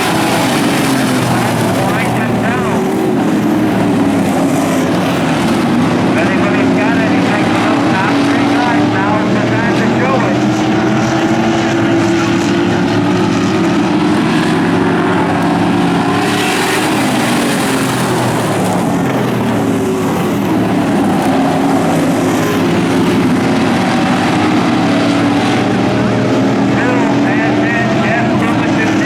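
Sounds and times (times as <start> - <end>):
race car engines racing: 0.0 - 29.0.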